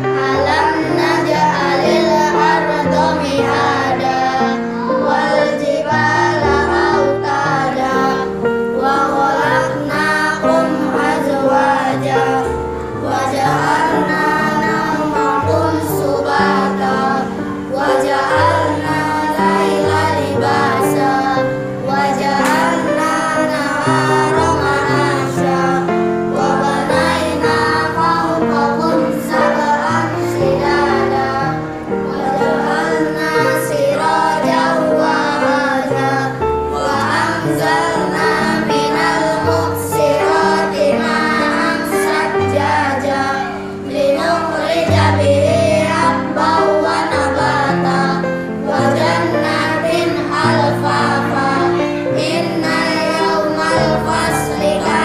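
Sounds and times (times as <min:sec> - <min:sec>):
children singing: 0:00.0 - 0:55.0
instrumental backing music: 0:00.0 - 0:55.0.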